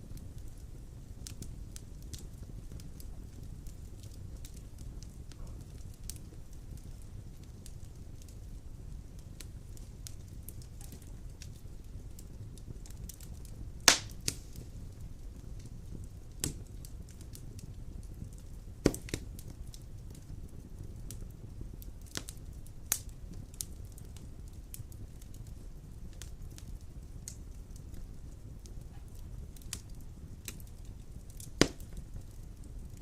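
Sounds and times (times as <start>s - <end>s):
fire flames rumbling: 0.0s - 33.0s
wood fire crackling and popping: 0.0s - 33.0s.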